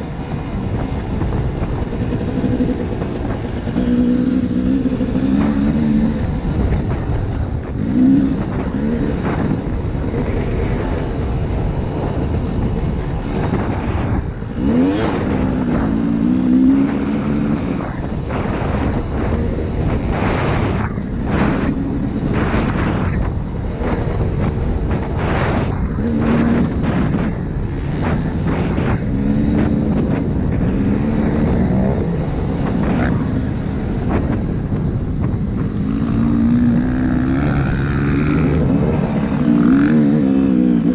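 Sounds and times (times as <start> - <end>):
dirt bike engine revving: 0.2 - 40.9.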